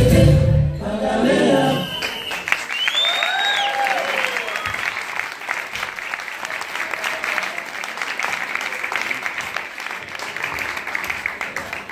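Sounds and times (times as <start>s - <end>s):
audience applauding: 1.8s - 11.9s.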